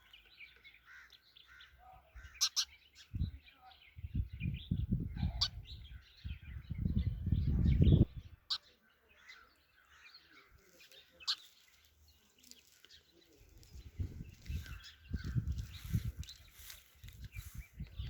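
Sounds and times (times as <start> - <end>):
sparrow chirping: 0.0 - 18.0.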